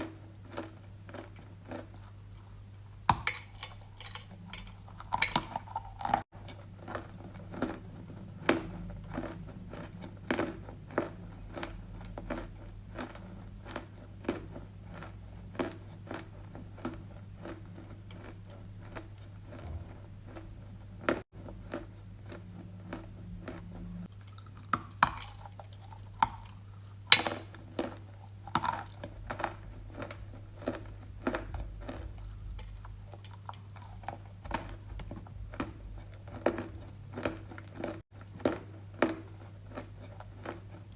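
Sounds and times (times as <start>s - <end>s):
clay being chewed crunchily: 0.0s - 40.9s.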